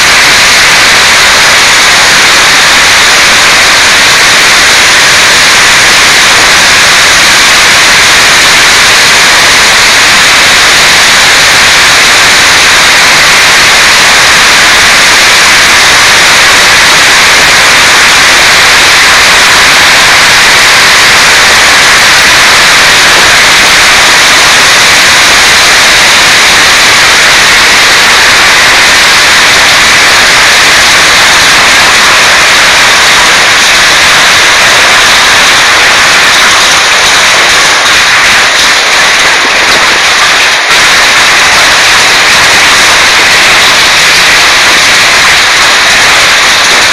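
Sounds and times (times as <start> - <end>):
heavy rain and hail: 0.0 - 46.9
strong wind: 0.0 - 46.9.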